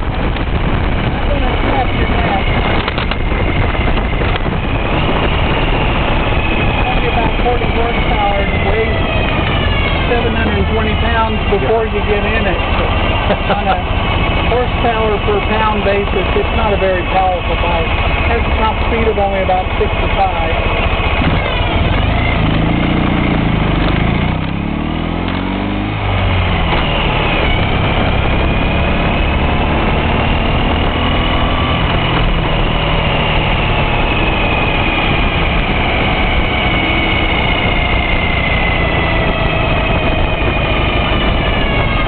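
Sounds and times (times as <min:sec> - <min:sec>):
motorcycle engine running: 0:00.0 - 0:42.0
road and wind noise: 0:00.0 - 0:42.0.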